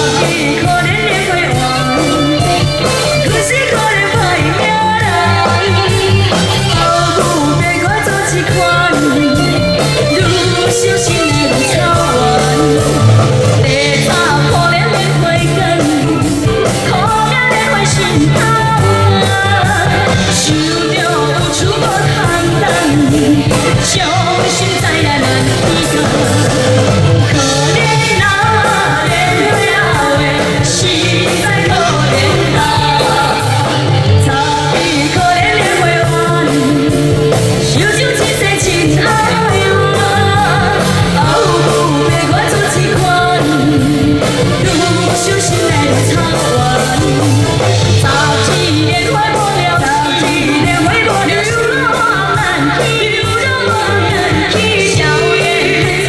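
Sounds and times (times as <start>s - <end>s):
amplified band music: 0.0s - 56.0s
women singing a duet: 0.0s - 56.0s.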